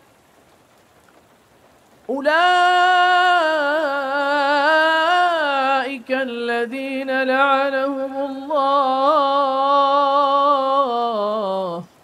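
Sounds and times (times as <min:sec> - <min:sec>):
man chanting quran recitation: 0:02.1 - 0:11.9.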